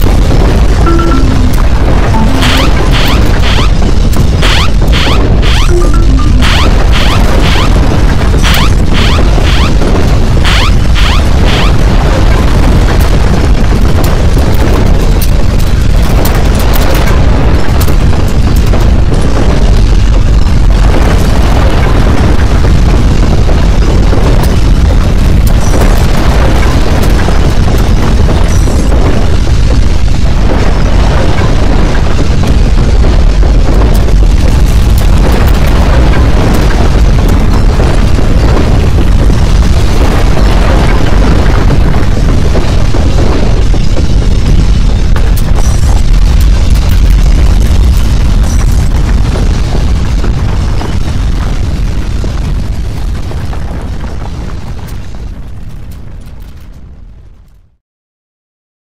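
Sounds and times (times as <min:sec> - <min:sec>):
crackles and rattles: 0:00.0 - 0:57.8
earthquake deep rumble: 0:00.0 - 0:57.8.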